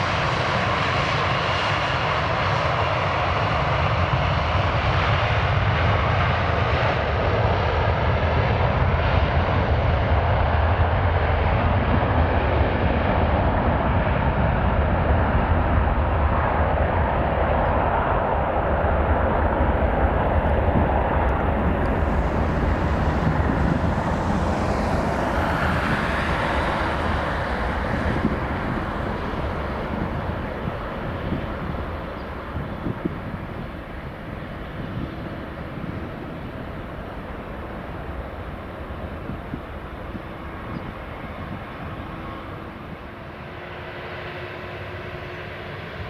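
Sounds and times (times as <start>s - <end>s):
jet engines at takeoff: 0.0s - 46.0s.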